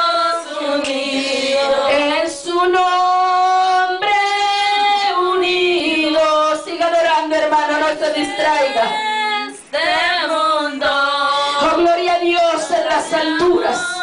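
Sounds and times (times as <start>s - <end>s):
women singing a hymn: 0.0s - 14.0s.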